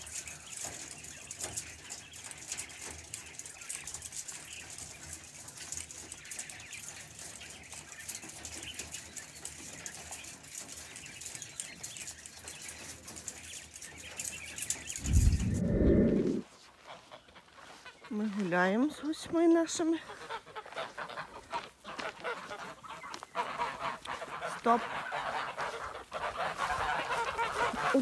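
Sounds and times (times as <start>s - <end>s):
quail pecking and scratching: 0.0s - 28.0s.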